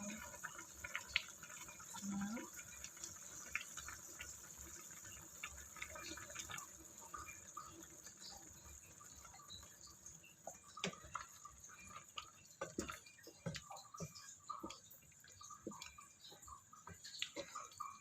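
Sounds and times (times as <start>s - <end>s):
light cooking clicks and knocks: 0.0s - 18.0s
liquid dripping: 0.0s - 18.0s.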